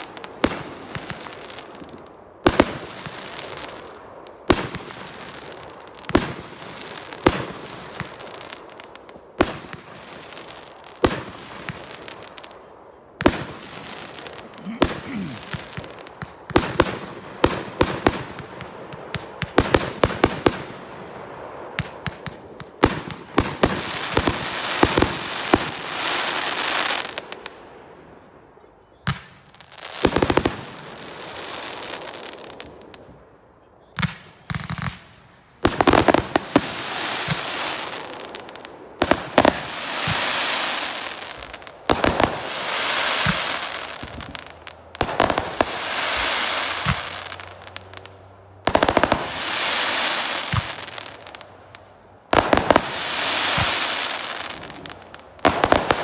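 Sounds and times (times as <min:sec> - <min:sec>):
fireworks crackling: 0:00.0 - 0:28.5, 0:29.1 - 0:56.0
fireworks bangs: 0:00.0 - 0:56.0.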